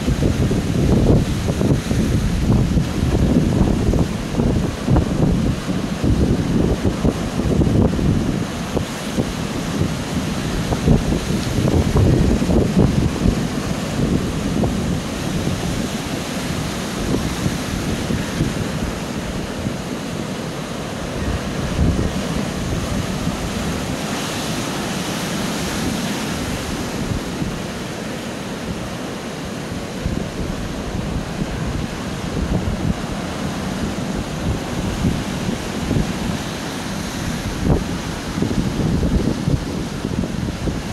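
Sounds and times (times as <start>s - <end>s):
surf breaking on rocky shore: 0.0s - 40.9s
wind buffeting microphone: 0.0s - 40.9s.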